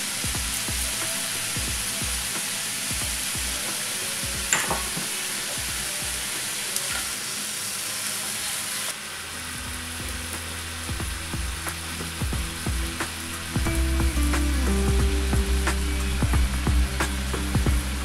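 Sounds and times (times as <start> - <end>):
meat sizzling in frying pan: 0.0 - 18.0.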